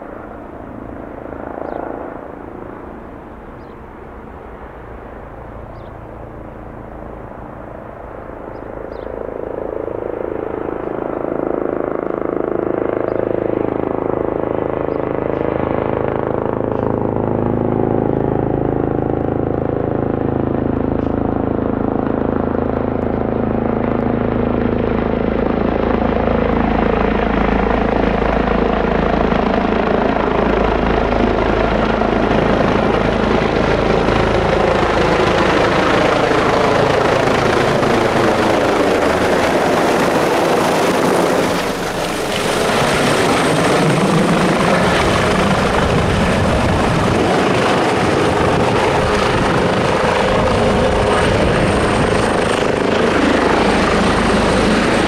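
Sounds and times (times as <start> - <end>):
helicopter rotor and turbine noise: 0.0 - 55.0.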